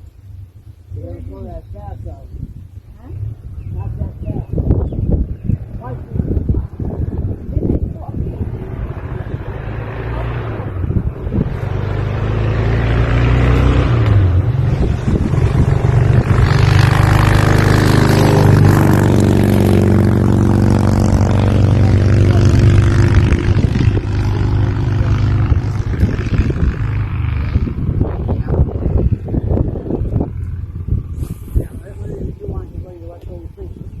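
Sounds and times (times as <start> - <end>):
motor engine passing: 0.0 - 34.0.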